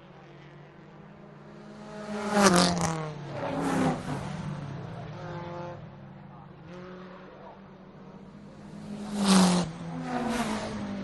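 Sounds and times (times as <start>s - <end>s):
engines droning: 0.0s - 11.0s
racing cars passing by: 0.0s - 11.0s.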